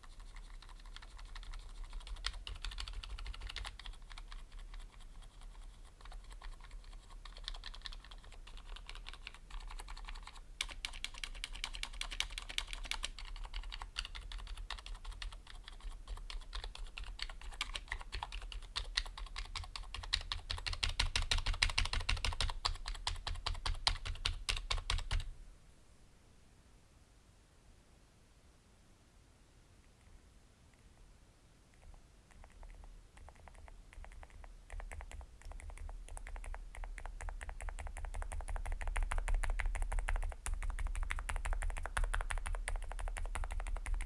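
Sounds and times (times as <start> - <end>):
soft keyboard keystrokes: 0.0 - 25.3, 31.7 - 44.0.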